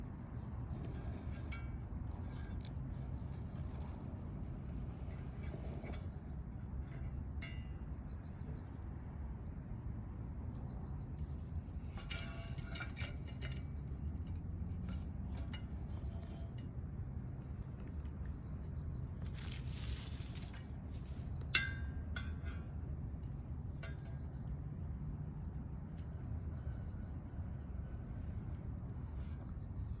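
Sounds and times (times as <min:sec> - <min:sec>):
crackles: 0:00.0 - 0:30.0
insects chirping: 0:00.0 - 0:30.0.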